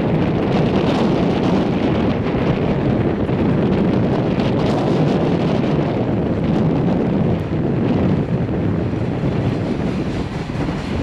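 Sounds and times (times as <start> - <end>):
freight train rolling on rails: 0.0 - 11.0
wind buffeting microphone: 0.0 - 11.0.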